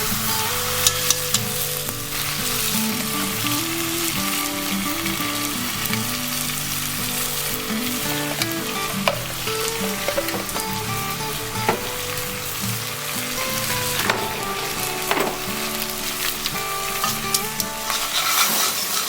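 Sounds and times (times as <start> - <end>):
quiet background melody: 0.0 - 18.8
food sizzling in a pan: 0.0 - 19.0.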